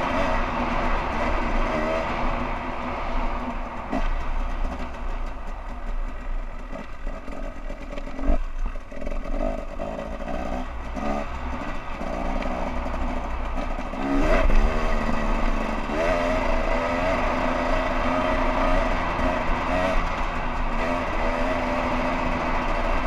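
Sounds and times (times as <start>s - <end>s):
off-road vehicle engine revving: 0.0s - 5.3s, 6.4s - 23.0s.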